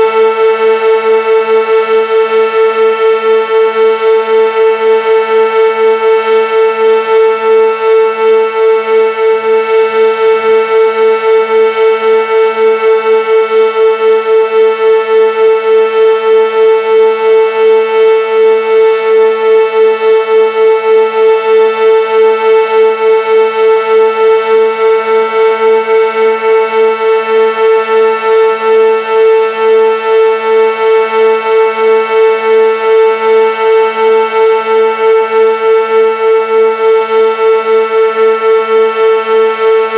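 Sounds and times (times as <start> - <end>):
pulsing tornado siren: 0.0 - 39.9.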